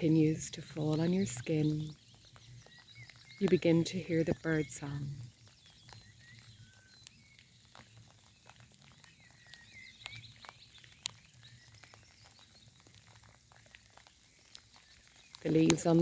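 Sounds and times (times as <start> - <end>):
light rain falling: 0.0 - 16.0
raindrops ticking: 0.0 - 16.0
small birds chirping: 0.0 - 16.0.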